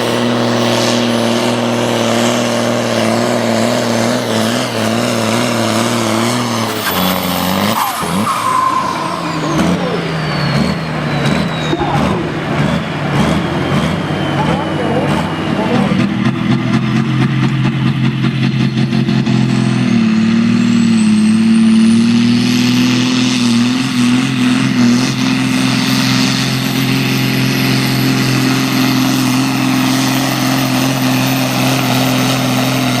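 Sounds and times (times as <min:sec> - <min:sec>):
tractor diesel engine under load: 0:00.0 - 0:33.0
turbocharger whine: 0:00.0 - 0:33.0.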